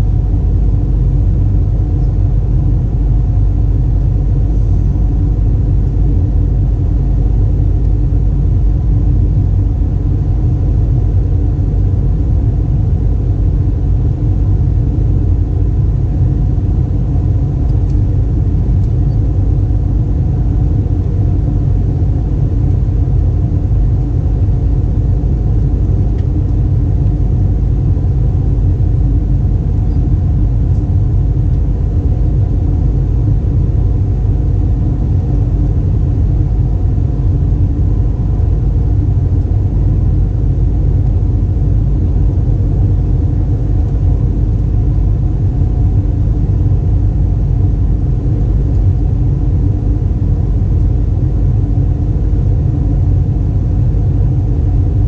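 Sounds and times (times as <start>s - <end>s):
aircraft cabin engine rumble: 0.0s - 55.0s
faint steady hum: 0.0s - 55.0s.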